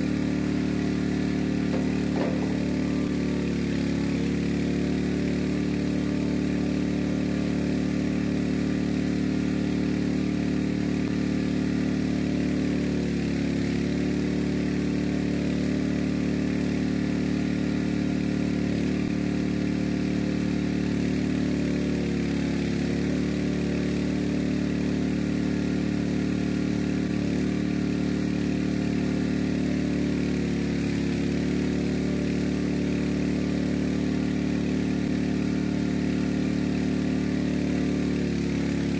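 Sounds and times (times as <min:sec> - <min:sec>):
small engine running steadily: 0:00.0 - 0:38.9.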